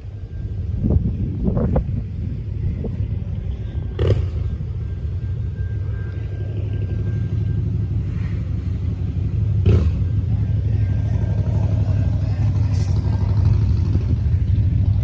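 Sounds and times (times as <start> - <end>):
train rumbling past on rails: 0.0 - 15.0.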